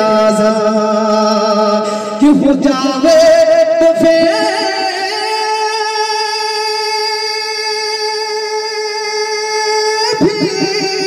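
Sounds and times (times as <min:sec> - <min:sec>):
man singing a long note: 0:00.0 - 0:11.0.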